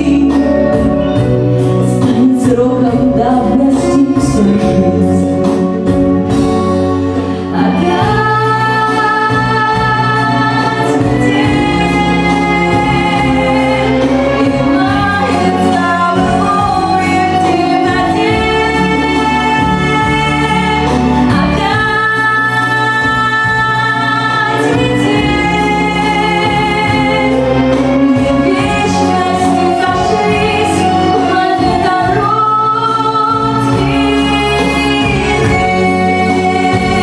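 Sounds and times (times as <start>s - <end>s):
backing track: 0.0s - 37.0s
woman singing pop ballad: 0.0s - 37.0s.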